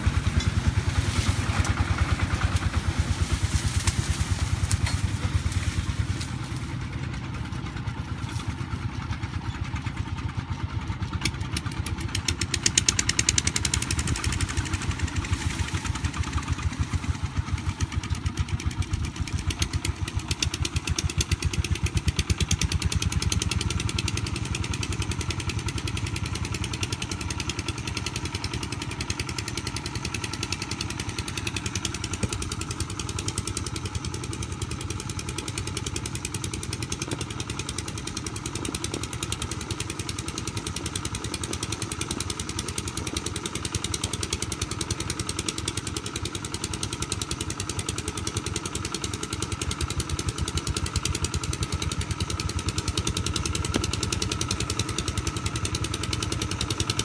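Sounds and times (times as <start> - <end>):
single-cylinder diesel engine running: 0.0 - 57.0.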